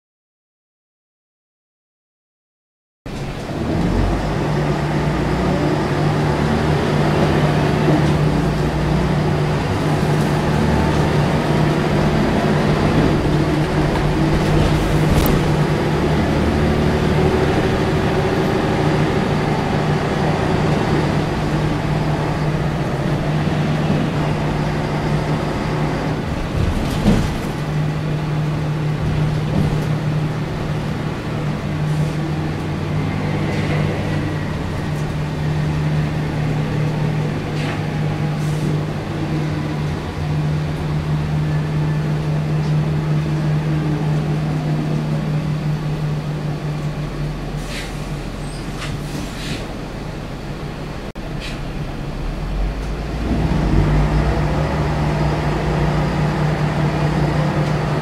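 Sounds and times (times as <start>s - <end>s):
bus diesel engine droning: 3.1s - 58.0s.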